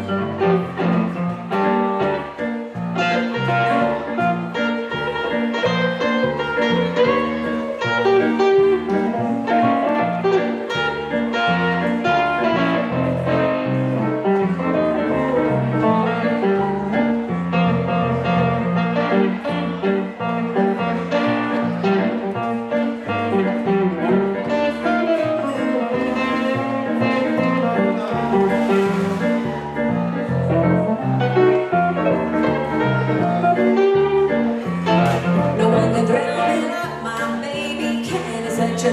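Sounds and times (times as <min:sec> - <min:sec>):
electric guitar playing blues: 0:00.0 - 0:38.9
electric keyboard: 0:00.0 - 0:38.9.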